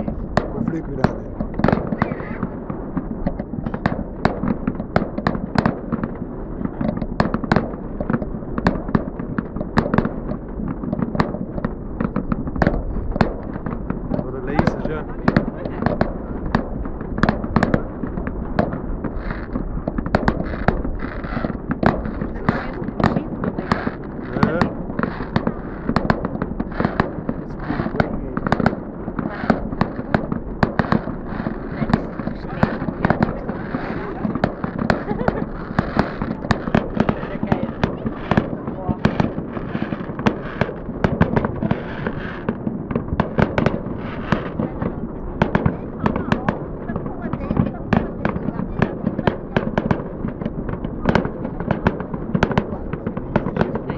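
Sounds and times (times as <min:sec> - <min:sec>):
continuous fireworks crackle: 0:00.0 - 0:53.9
fireworks bangs: 0:00.0 - 0:53.9.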